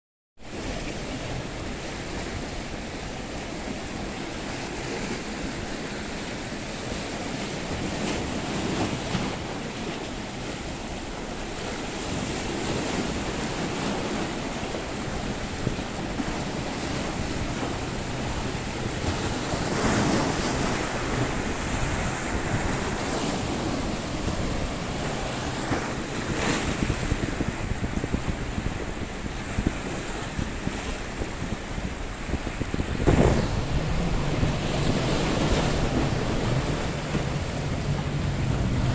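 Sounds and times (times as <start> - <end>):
waves splashing: 0.4 - 38.9
wind buffeting microphone: 0.5 - 38.9.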